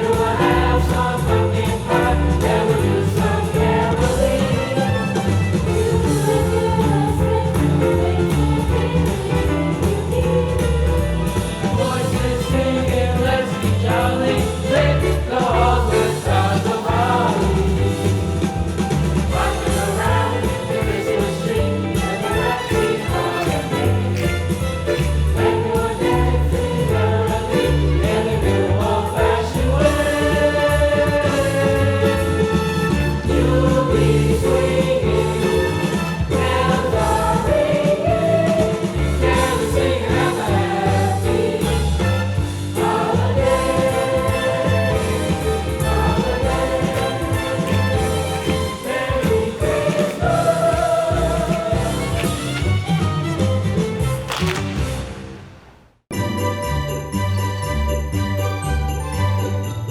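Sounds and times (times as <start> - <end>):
group of voices singing: 0.0 - 52.8
rhythmic bass accompaniment: 0.0 - 55.1.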